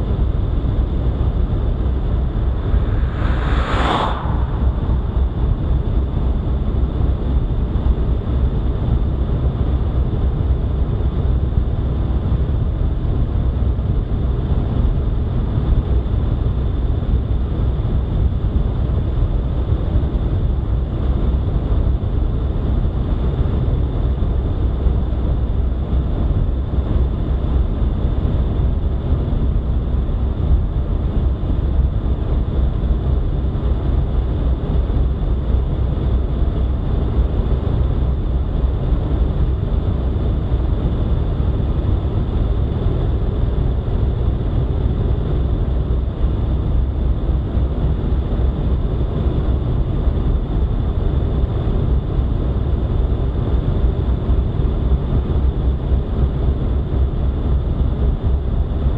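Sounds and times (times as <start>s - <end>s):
vehicle road and wind noise: 0.0s - 58.9s.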